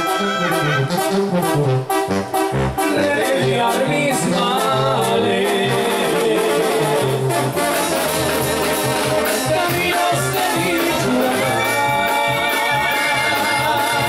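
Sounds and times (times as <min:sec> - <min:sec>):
brass band music: 0:00.0 - 0:14.0
trombones: 0:00.0 - 0:14.0
tuba bass line: 0:00.0 - 0:14.0
drums: 0:02.3 - 0:14.0.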